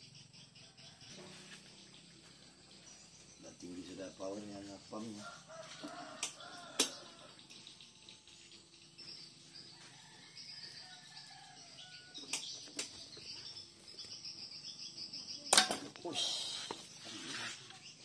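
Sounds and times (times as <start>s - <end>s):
birds chirping: 0.0s - 18.0s
insects trilling: 0.0s - 18.0s.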